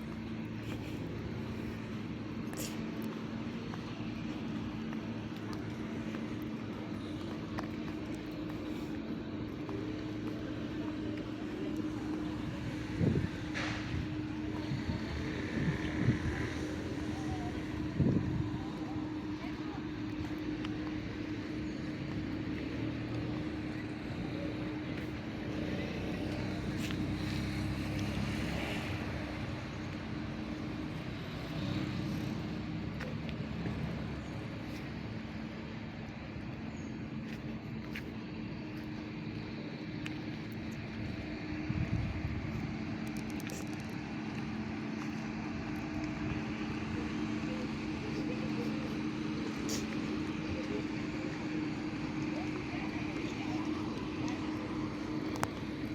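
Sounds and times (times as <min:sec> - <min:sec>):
engine drone: 0:00.0 - 0:55.9
outdoor background noise: 0:00.0 - 0:55.9.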